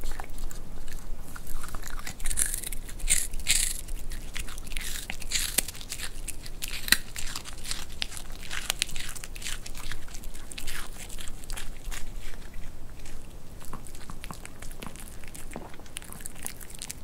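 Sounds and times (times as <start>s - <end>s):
dog crunching carrot: 0.0s - 17.0s.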